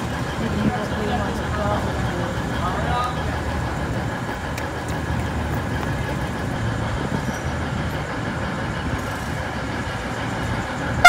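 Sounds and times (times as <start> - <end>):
diesel train engines running: 0.0 - 11.0.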